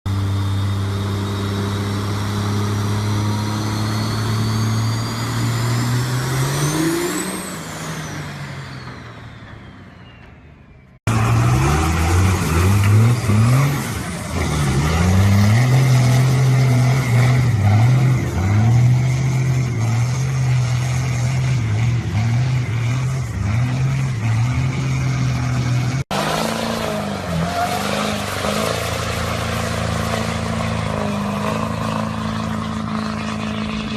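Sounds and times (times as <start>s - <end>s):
engine revving: 0.1s - 9.7s, 11.0s - 33.9s
diesel truck engine: 0.1s - 33.9s.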